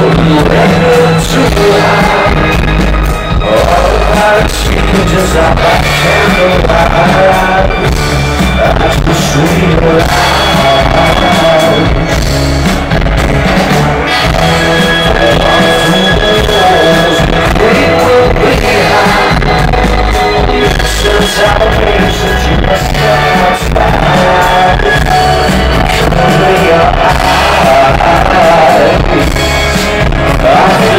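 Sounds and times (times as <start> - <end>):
live rock band playing: 0.0 - 30.9
person singing: 0.0 - 30.9.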